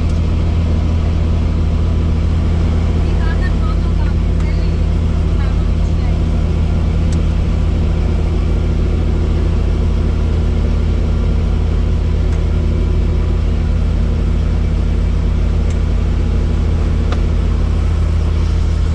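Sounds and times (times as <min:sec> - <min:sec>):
helicopter drone: 0:00.0 - 0:18.9.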